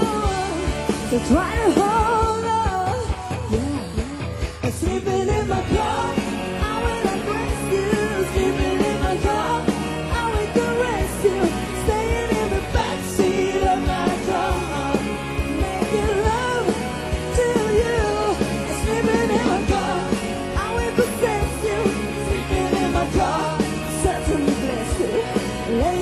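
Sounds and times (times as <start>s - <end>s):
lead vocal singing: 0.0s - 26.0s
rock band playing: 0.0s - 26.0s.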